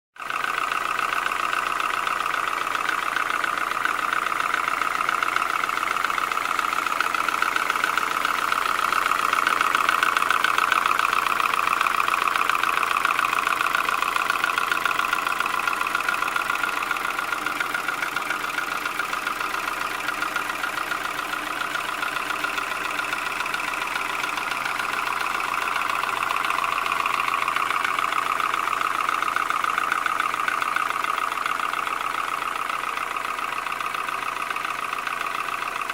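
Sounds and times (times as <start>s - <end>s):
car engine idling with tapping: 0.2s - 35.9s.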